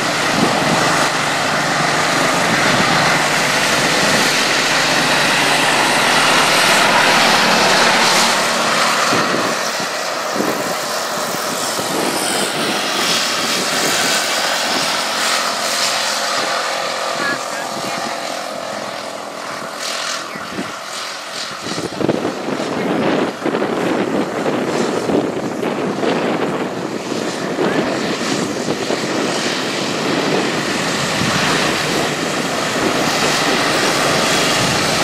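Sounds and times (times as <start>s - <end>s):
lawn tractor engines racing: 0.0s - 35.0s.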